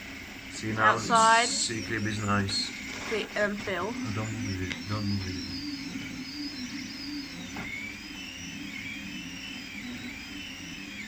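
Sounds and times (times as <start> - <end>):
steady low hum: 0.0 - 11.0
stepper motors whining: 0.0 - 11.0.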